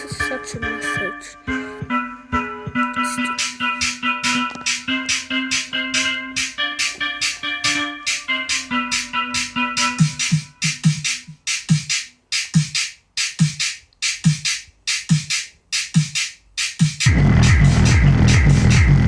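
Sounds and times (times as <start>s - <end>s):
electronic dance music: 0.0s - 19.0s
drum machine kicks: 2.6s - 8.3s, 8.9s - 19.0s
sharp hi-hats: 3.0s - 19.0s.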